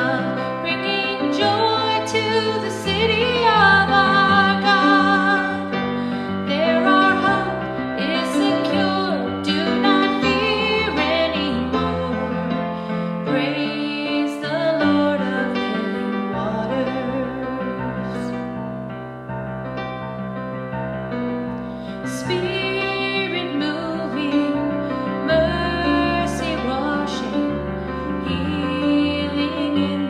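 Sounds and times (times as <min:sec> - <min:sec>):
woman singing with vibrato: 0:00.0 - 0:12.5, 0:13.2 - 0:18.3, 0:22.1 - 0:30.0.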